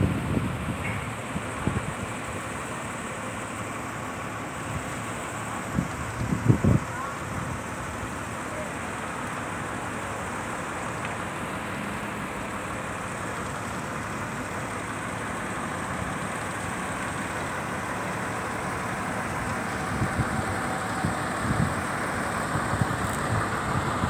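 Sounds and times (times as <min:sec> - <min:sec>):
diesel engines running: 0:00.0 - 0:24.0.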